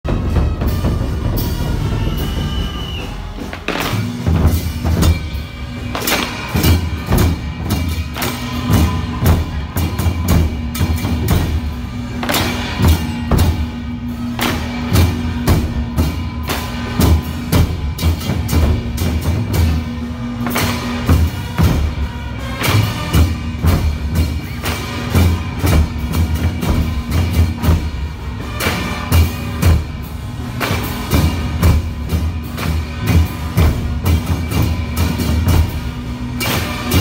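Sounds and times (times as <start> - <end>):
drum troupe beating drums: 0.0 - 37.0.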